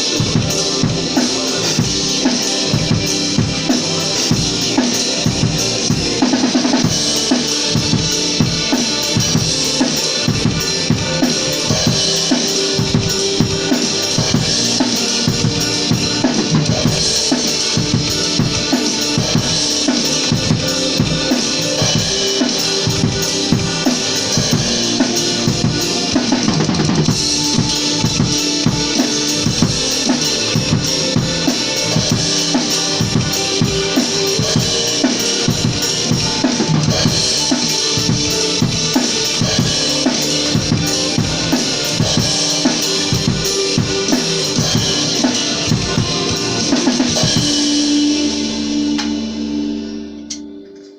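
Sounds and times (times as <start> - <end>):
band music: 0.0 - 50.9
drum kit beat: 0.0 - 50.9.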